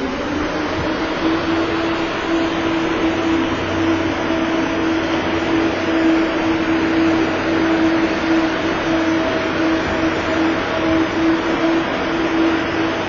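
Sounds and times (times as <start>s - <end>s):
constant hum: 0.0s - 13.0s
mechanical rushing drone: 0.0s - 13.0s.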